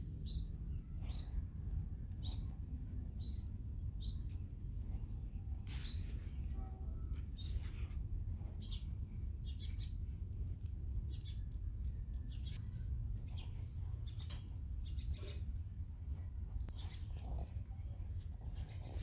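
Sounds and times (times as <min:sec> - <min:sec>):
low rumble: 0:00.0 - 0:19.0
small birds chirping: 0:00.0 - 0:19.0.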